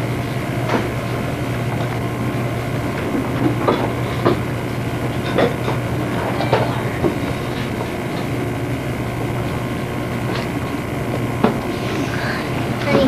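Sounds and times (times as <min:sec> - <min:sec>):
constant hiss: 0:00.0 - 0:13.0
low hum: 0:00.0 - 0:13.0.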